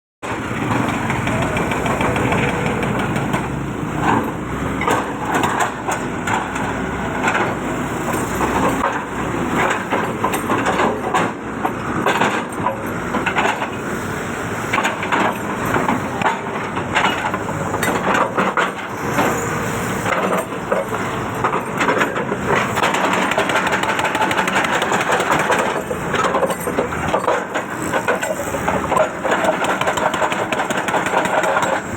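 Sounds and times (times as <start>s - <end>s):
diesel engine running under load: 0.2s - 31.9s
hydraulic breaker hammering: 0.2s - 31.9s.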